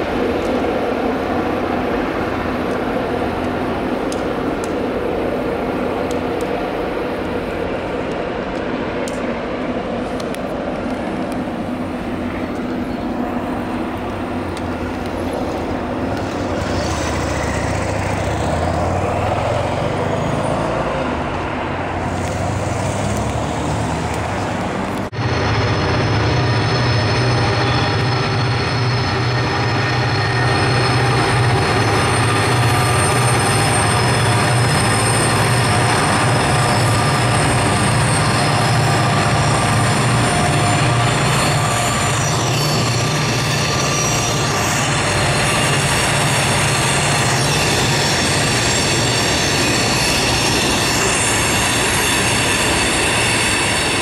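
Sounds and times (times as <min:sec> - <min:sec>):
diesel locomotive engines: 0:00.0 - 0:54.0
rolling freight cars: 0:00.0 - 0:54.0.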